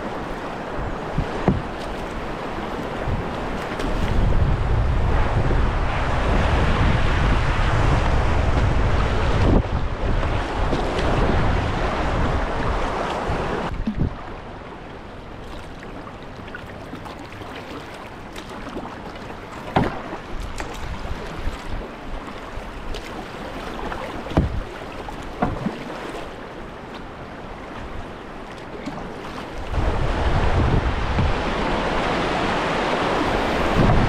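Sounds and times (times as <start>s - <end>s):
paddle splashing in water: 0.0s - 5.0s, 6.2s - 14.3s, 15.3s - 34.0s
river water rushing: 0.0s - 34.0s.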